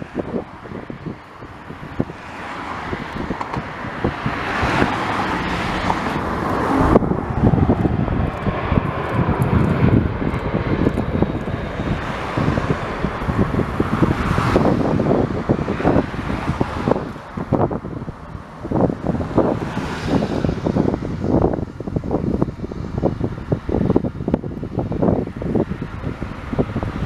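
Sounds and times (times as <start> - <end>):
jet engine rumble: 0.0 - 27.0
wind buffeting microphone: 0.0 - 27.0.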